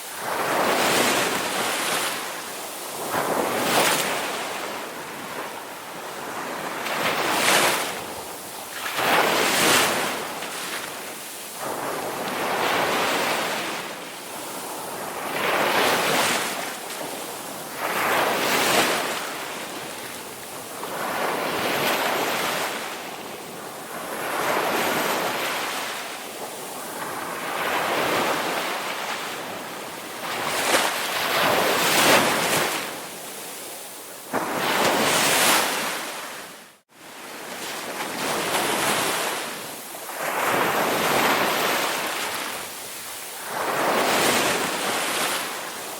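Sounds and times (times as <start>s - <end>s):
ocean waves breaking on shore: 0.0s - 45.9s.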